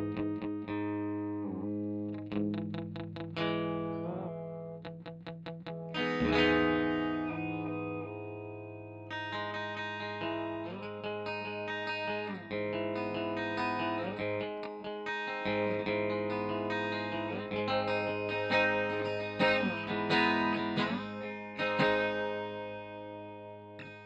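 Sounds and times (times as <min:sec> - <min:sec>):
electric guitar ringing chords: 0:00.0 - 0:24.0.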